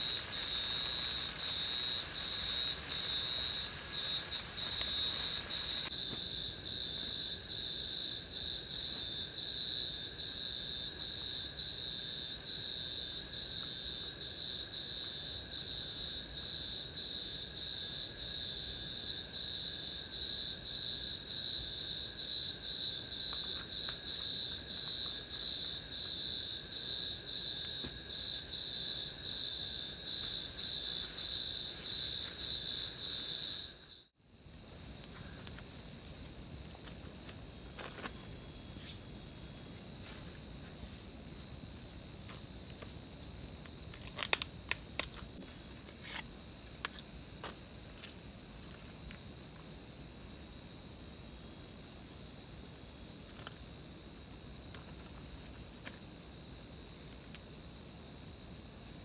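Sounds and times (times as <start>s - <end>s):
night insects chorus: 0.0s - 59.0s.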